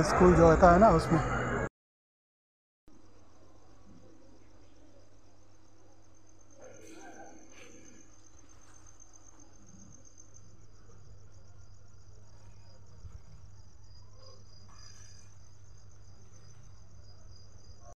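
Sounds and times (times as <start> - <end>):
crickets chirping: 2.9 - 18.0.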